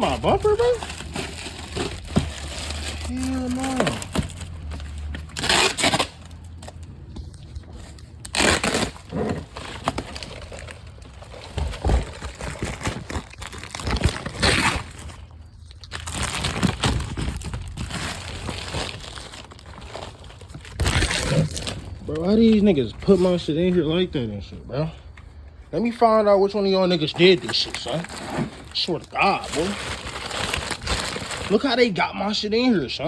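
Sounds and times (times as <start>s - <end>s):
packaging rustling and crinkling: 0.0s - 24.1s, 26.7s - 31.8s.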